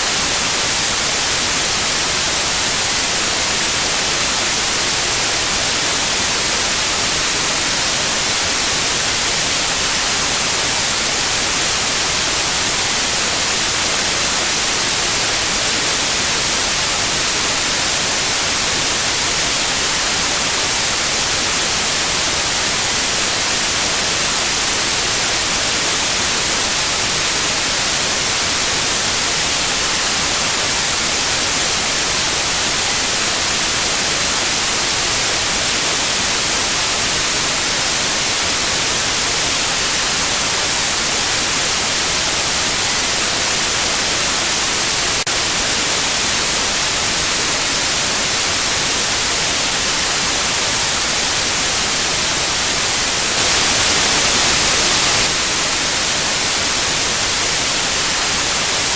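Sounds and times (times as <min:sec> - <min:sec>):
white noise hiss: 0:00.0 - 0:58.9
very high-pitched tone: 0:02.2 - 0:58.9.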